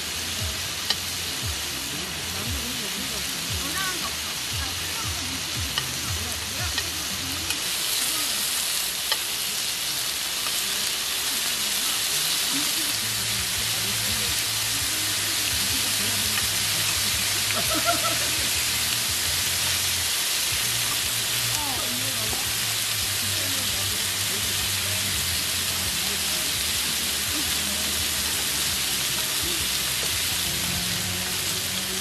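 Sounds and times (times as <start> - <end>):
meat sizzling on griddle: 0.0 - 32.0.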